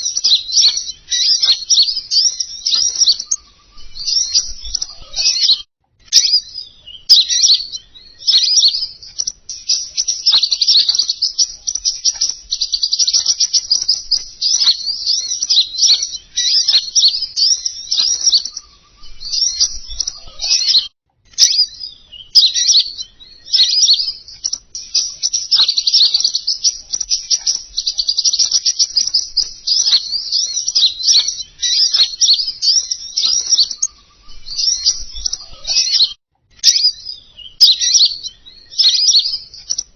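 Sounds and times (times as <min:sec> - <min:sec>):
recorded bird twittering chirps: 0:00.0 - 0:39.9.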